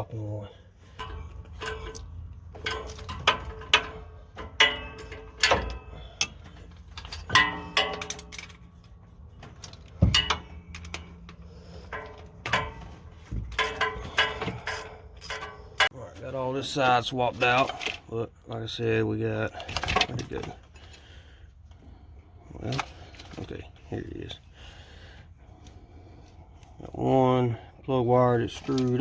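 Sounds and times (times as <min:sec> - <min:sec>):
hand tools and metal parts clinking: 0:00.1 - 0:29.0.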